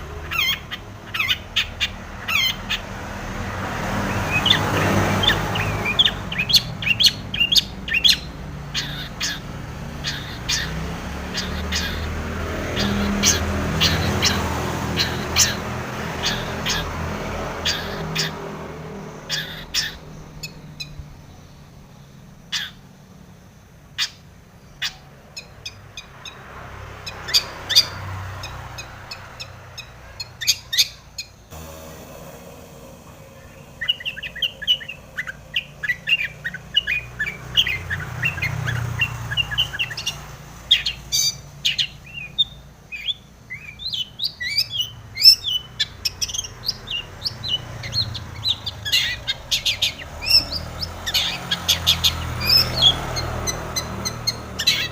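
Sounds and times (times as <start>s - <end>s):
shrike singing and chattering: 0.0s - 3.2s, 3.9s - 23.1s, 23.9s - 54.9s.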